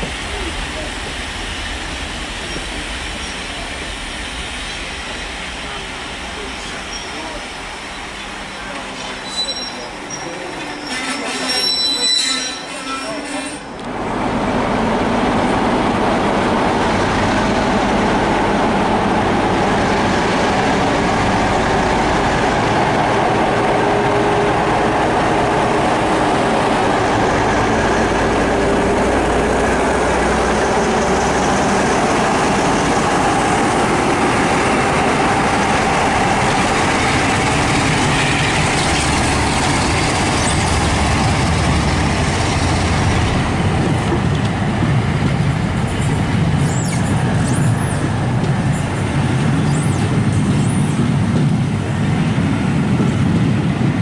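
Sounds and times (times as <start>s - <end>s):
diesel locomotive engine drone: 0.0s - 54.0s
train rumble: 0.0s - 54.0s.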